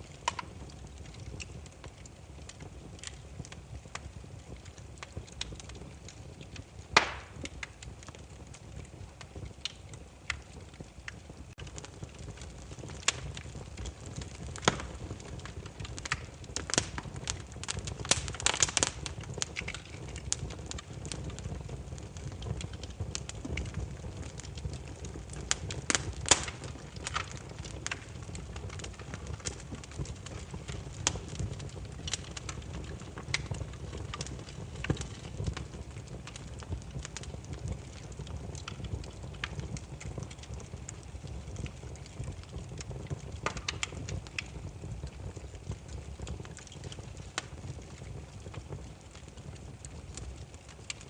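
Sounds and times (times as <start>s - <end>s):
firewood crackling and popping: 0.0s - 51.0s
low rumble of flames: 0.0s - 51.0s.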